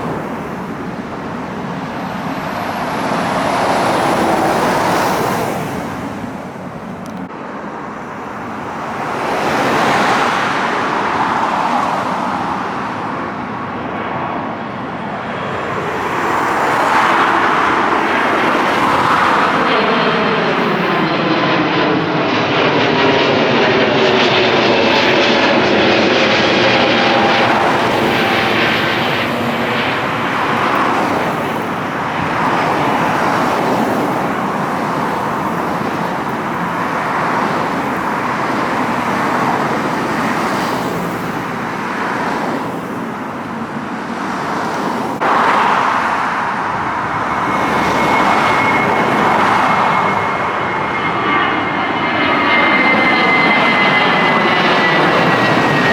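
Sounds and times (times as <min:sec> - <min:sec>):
jet airliner engines: 0:00.0 - 0:55.9.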